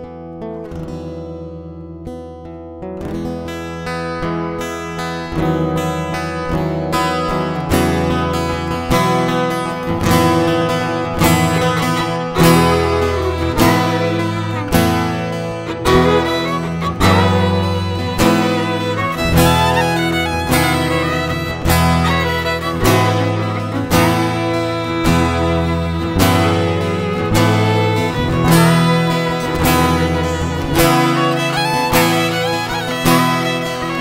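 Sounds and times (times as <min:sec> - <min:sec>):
acoustic guitar and violin music: 0:03.0 - 0:34.0.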